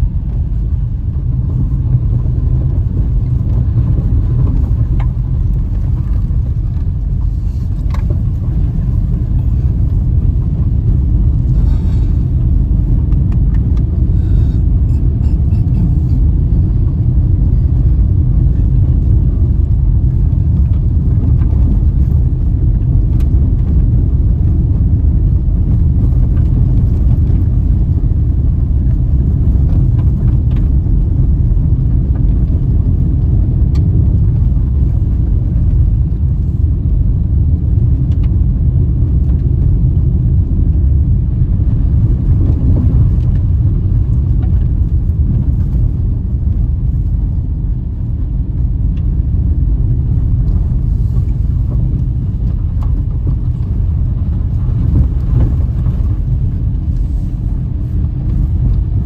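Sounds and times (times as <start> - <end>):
car engine: 0.0 - 59.0
tyre and road noise on gravel: 0.0 - 59.0.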